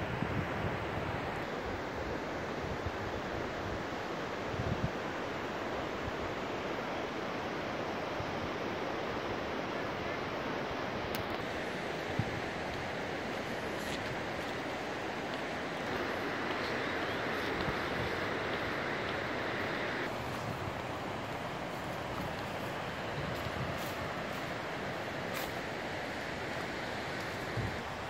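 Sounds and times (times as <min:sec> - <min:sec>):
fast river rushing: 0:00.0 - 0:28.0.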